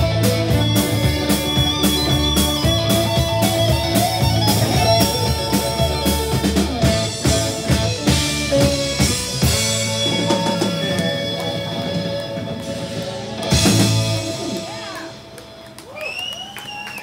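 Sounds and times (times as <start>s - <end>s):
drum kit: 0.0s - 15.7s
electric guitar: 0.0s - 17.0s.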